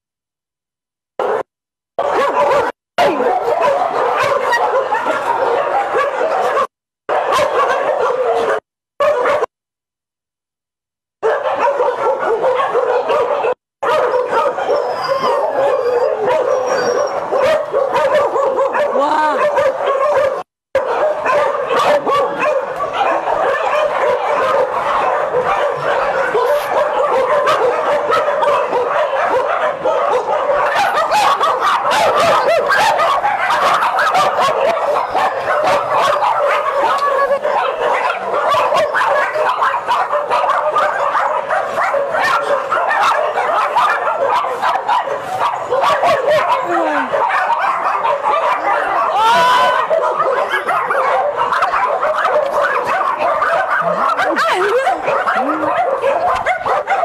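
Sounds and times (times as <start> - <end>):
dogs barking and whining: 1.2 - 9.5, 11.2 - 57.0.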